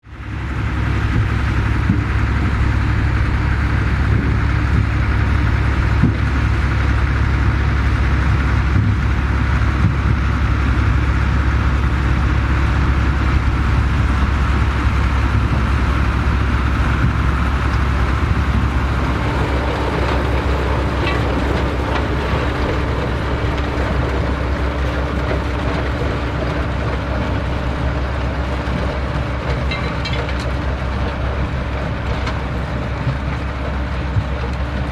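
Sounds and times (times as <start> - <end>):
tractor engine running: 0.0 - 34.9
higher steady hum: 0.4 - 33.5.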